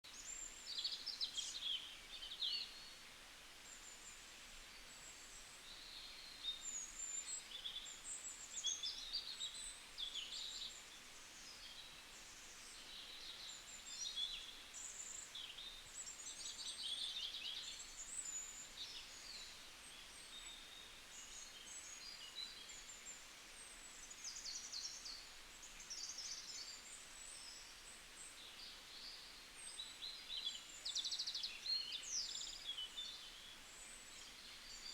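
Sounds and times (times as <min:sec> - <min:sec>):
faint steady hiss: 0:00.0 - 0:34.9.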